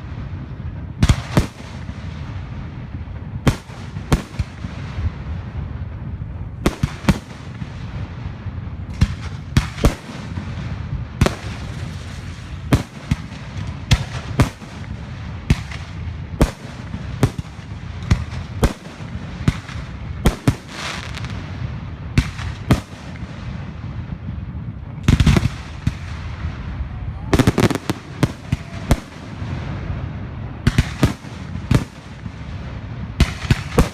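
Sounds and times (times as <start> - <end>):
fireworks bangs: 0.0 - 33.9
fireworks crackling: 0.0 - 33.9.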